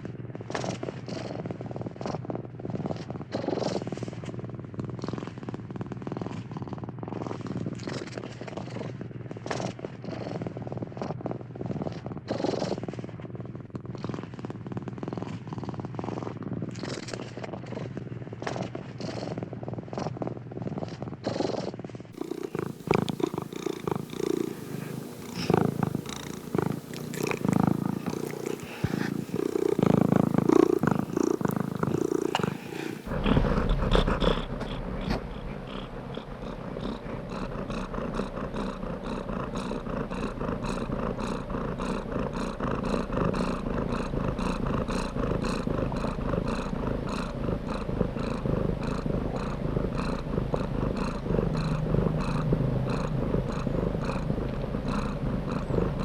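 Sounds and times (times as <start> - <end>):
cat purring: 0.3 - 56.0.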